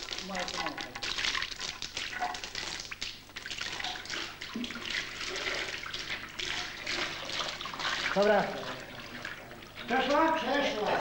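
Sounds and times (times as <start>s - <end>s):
liquid wax pouring and trickling: 0.0s - 11.0s.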